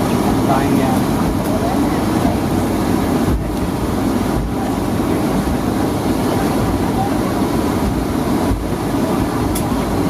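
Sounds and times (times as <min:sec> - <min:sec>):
airplane rolling rumble: 0:00.0 - 0:10.0
jet engines idling: 0:00.0 - 0:10.0.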